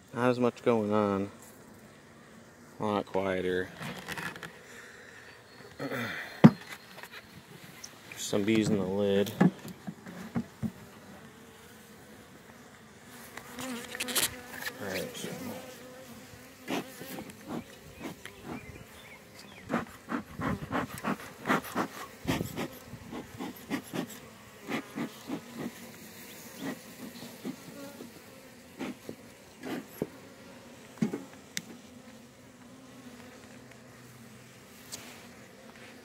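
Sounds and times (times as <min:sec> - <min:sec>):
honeybees buzzing: 0:00.2 - 0:36.0.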